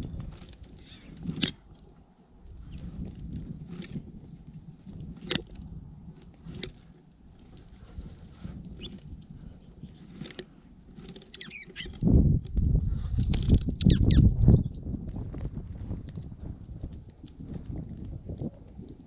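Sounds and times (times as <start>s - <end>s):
wings fluttering at microphone: 0.0s - 1.9s, 2.5s - 19.0s.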